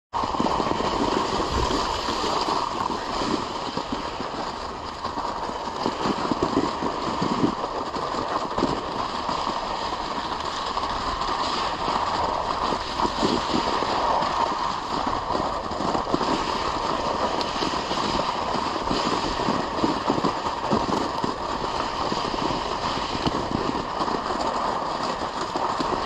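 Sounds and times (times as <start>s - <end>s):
sled knocking and rattling: 0.2s - 26.0s
sled runners scraping on snow: 0.2s - 26.0s.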